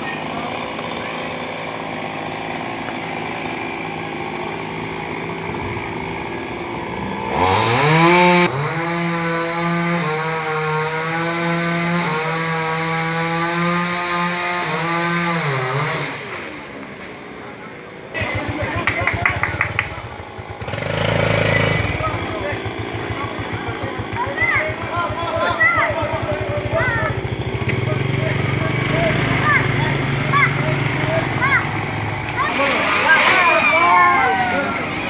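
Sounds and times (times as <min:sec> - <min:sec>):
chainsaw idling and revving: 0:00.0 - 0:35.0.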